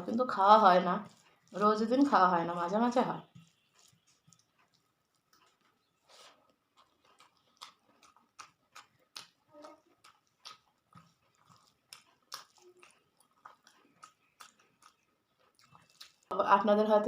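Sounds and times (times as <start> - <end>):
person chewing food: 0.0 - 16.3.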